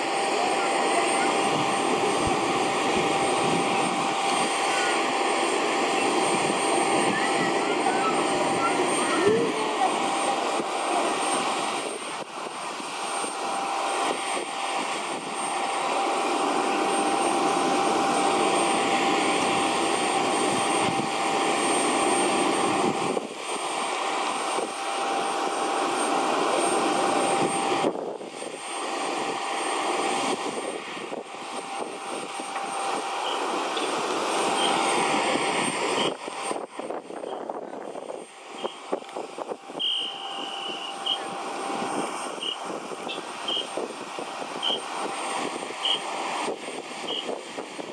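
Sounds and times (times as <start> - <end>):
jet turbine whine: 0.0 - 47.9.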